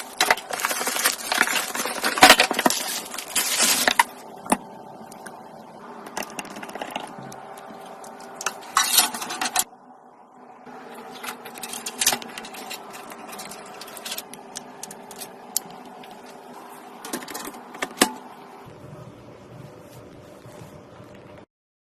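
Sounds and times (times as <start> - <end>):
steady hum: 0.0 - 21.5.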